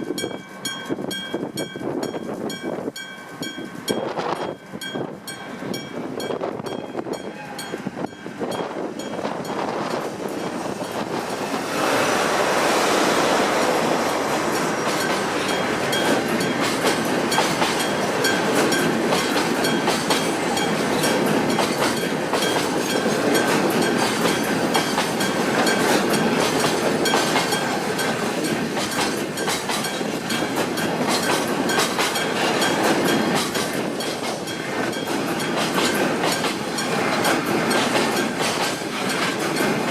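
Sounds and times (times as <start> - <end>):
crossing warning bell ringing: 0.0 - 39.9
freight train wheels clacking: 0.0 - 39.9.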